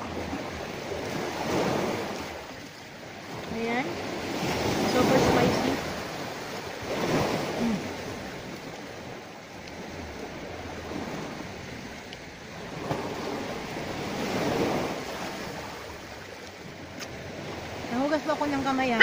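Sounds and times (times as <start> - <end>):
sea waves washing on shore: 0.0 - 19.0.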